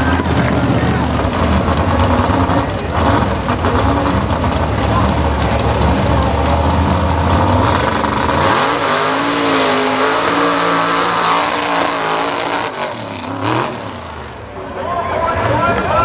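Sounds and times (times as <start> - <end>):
buggy engine revving: 0.0 - 14.7.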